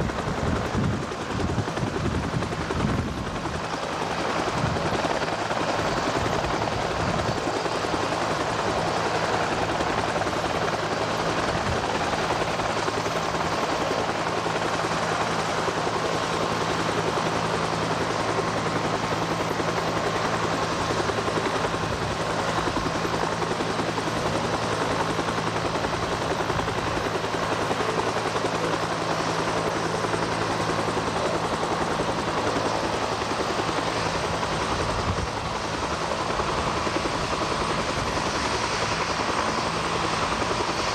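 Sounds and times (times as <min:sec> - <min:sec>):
helicopter turbine and rotors: 0:00.0 - 0:40.9.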